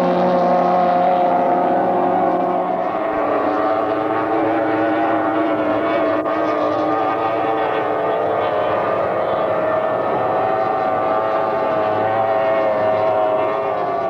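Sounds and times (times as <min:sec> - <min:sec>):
powerboat engines droning: 0:00.0 - 0:14.0
rushing water: 0:00.0 - 0:14.0.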